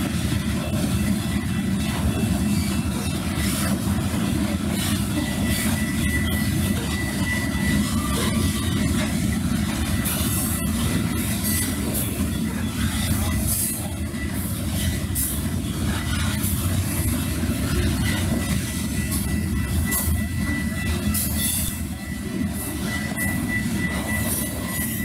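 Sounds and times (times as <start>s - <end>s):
train wheels rumbling on rail: 0.0s - 25.0s
wheel squeal: 0.1s - 25.0s.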